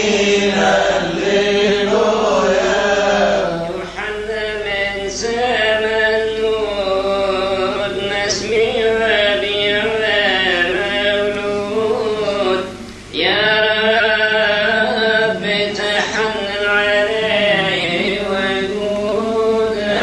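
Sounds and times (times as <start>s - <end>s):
man chanting a hymn: 0.0s - 20.0s.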